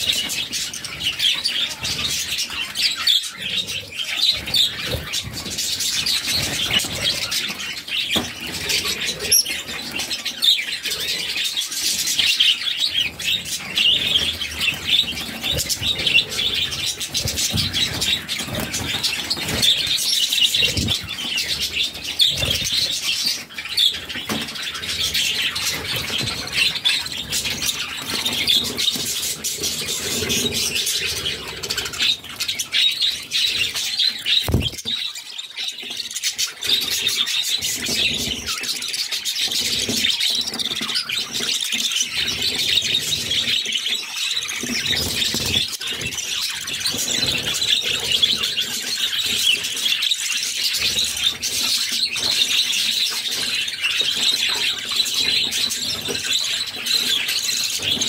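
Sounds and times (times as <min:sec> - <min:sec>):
budgerigars chirping and chattering: 0:00.0 - 0:58.0.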